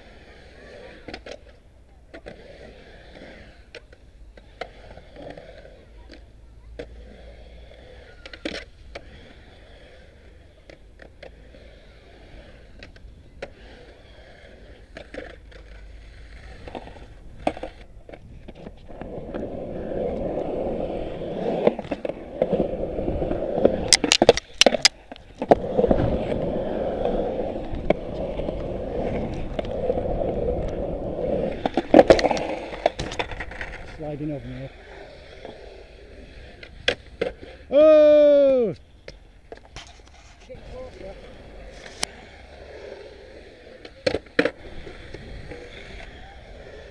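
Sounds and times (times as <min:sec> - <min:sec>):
skateboard clacks: 0:00.0 - 0:46.9
skateboard wheels rolling on concrete: 0:00.0 - 0:46.9.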